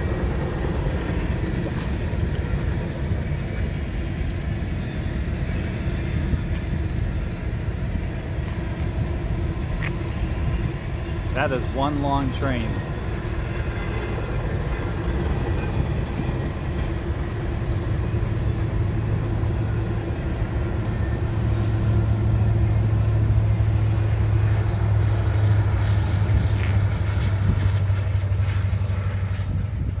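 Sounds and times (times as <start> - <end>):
diesel locomotive drone: 0.0 - 30.0
train wheels rumbling on rail: 0.0 - 30.0.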